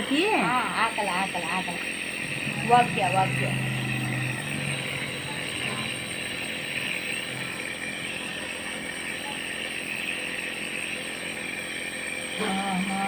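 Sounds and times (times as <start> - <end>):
small motor buzzing: 0.0 - 13.0.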